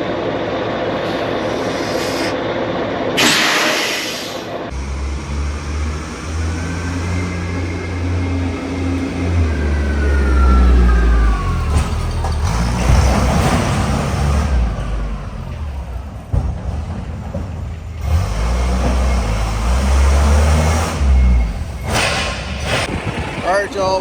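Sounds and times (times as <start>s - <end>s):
truck diesel engine: 4.1s - 24.0s.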